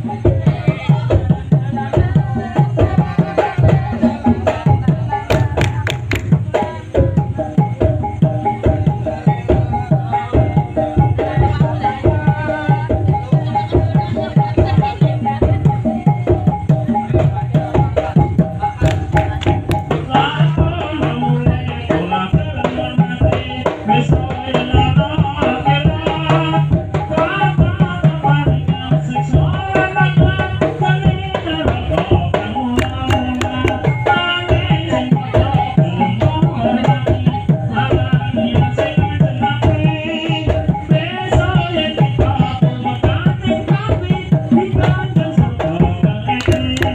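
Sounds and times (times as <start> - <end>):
hand drums beating: 0.0 - 46.9.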